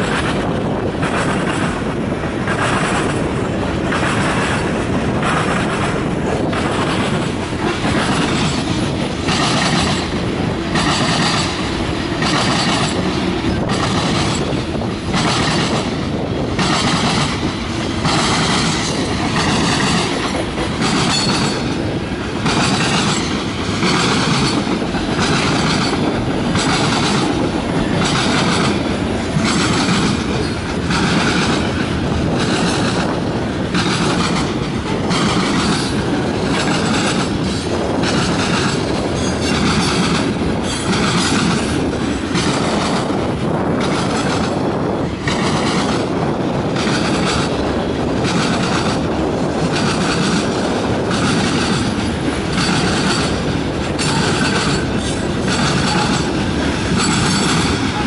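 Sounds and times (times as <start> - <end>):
steel wheels rumbling on rail: 0.0 - 58.0
wheels clacking over rail joints: 0.0 - 58.0.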